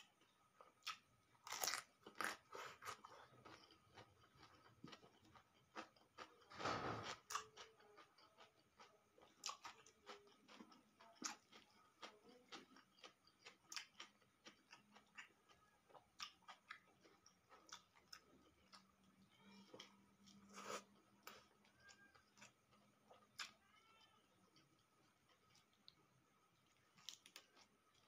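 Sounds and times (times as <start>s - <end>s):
person chewing crunchy food: 0.1s - 23.6s, 24.6s - 28.0s.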